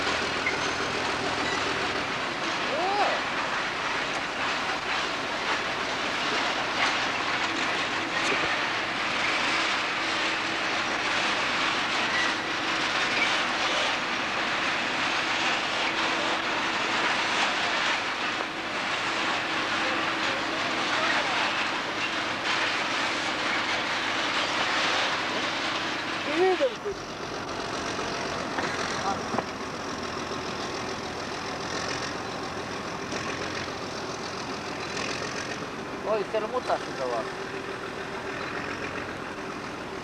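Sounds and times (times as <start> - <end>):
diesel locomotive hum: 0.0 - 40.0
train coaches rumbling and rattling: 0.0 - 40.0.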